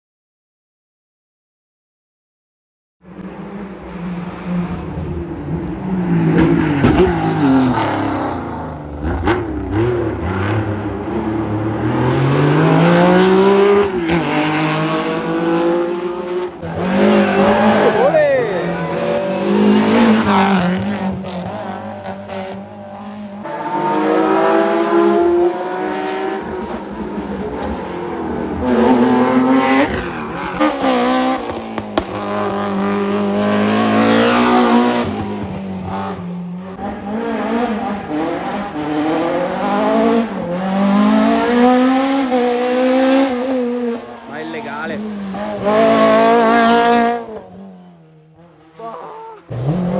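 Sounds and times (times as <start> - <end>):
rally car engines revving: 3.1 - 49.9.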